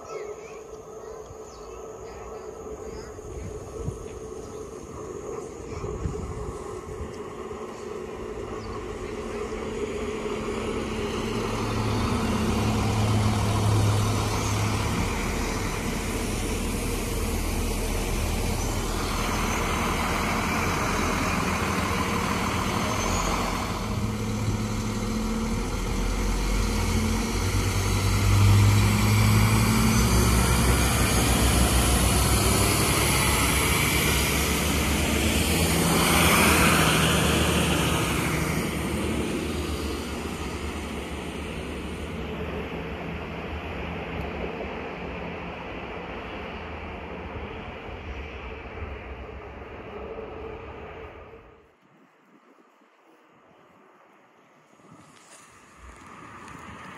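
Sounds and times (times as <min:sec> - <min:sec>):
diesel railcar engines humming: 0:00.0 - 0:56.9
rushing noise: 0:01.4 - 0:52.3.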